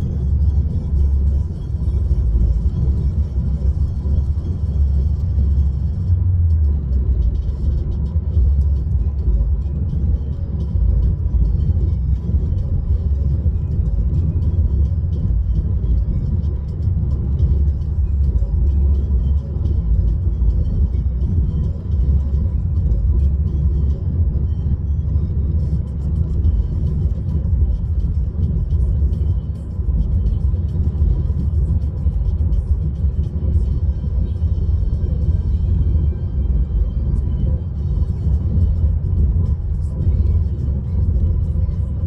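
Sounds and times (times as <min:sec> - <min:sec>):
car cabin rumble: 0:00.0 - 0:42.0.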